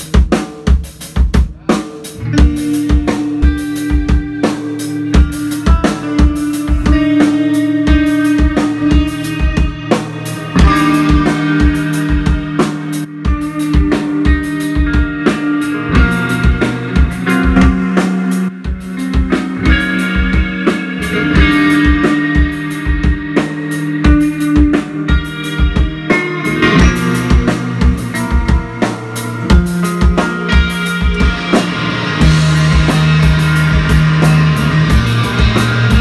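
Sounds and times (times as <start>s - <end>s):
bass guitar: 0.0s - 36.0s
distorted electric guitars: 0.0s - 36.0s
drum kit beat: 0.0s - 36.0s.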